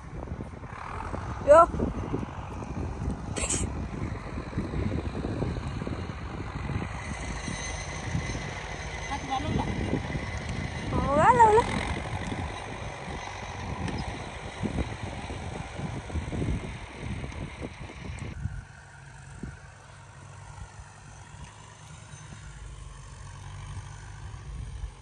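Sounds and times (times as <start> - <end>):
distant tractor engine running: 0.0 - 25.0
wind gusting on microphone: 0.0 - 25.0.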